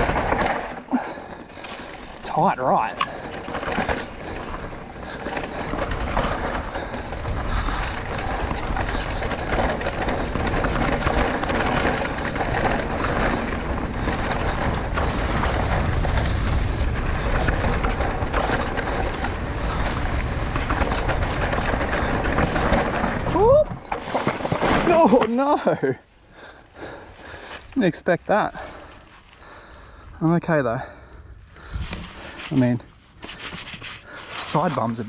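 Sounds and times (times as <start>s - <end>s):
bike rattling over bumps: 0.0s - 35.0s
tyres rumbling on dirt trail: 0.0s - 35.0s.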